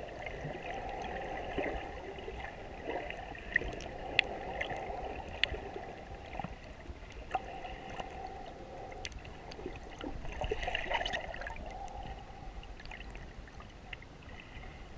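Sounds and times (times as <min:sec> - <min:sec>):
muffled underwater wash: 0:00.0 - 0:14.9
small underwater clicks and crackles: 0:00.0 - 0:14.9.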